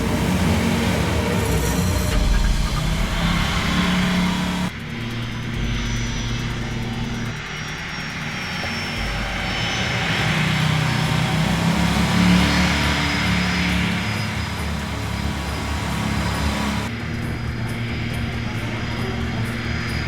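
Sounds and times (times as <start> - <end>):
car engine noise: 0.0 - 17.0
faint high turbine whine: 0.0 - 20.0
jet engines at takeoff power: 0.0 - 20.0.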